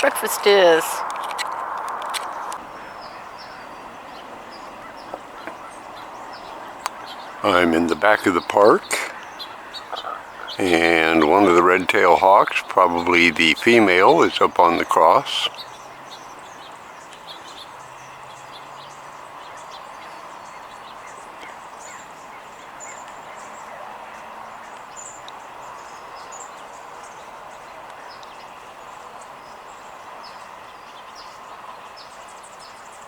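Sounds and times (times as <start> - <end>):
outdoor background noise: 0.0 - 33.0
small birds chirping: 0.0 - 33.0.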